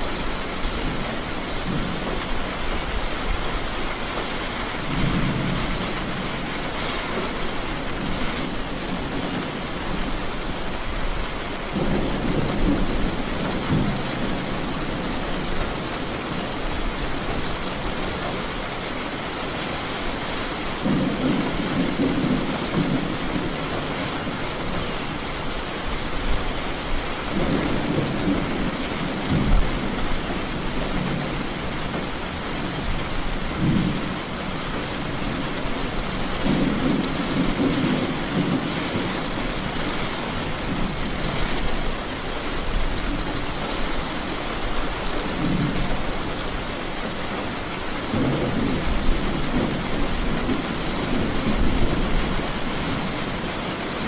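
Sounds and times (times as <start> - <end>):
steady rain: 0.0 - 54.0
thunder rumbling: 4.6 - 18.5, 20.8 - 43.8, 44.7 - 54.0.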